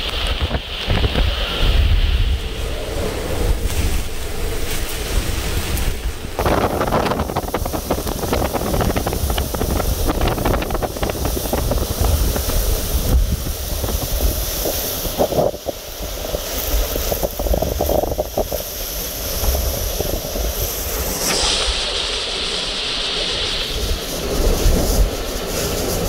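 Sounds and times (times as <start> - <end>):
loud gusting hurricane winds: 0.0 - 26.0
wind buffeting on microphone: 0.0 - 26.0
wind-driven rain: 0.0 - 26.0.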